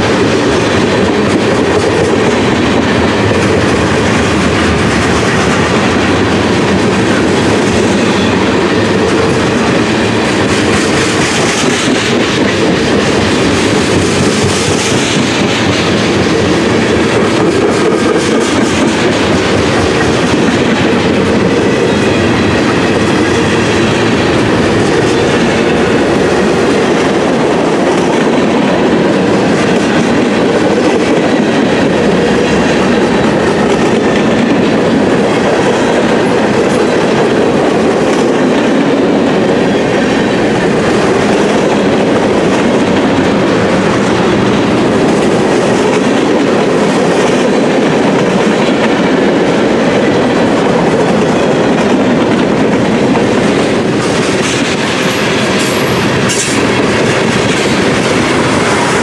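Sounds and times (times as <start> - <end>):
train wheels rumbling over rails: 0.0 - 59.0.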